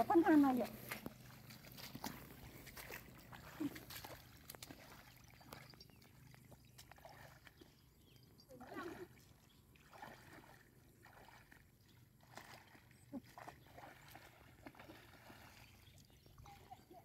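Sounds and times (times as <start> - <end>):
feet wading through water: 0.0 - 17.0.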